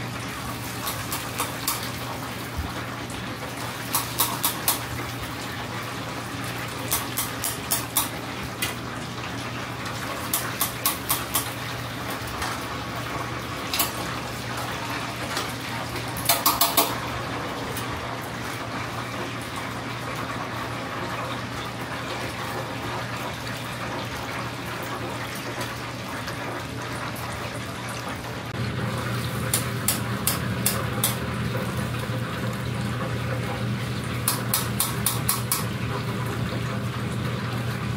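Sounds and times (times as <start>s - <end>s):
oil sizzling in a fryer: 0.0s - 37.9s.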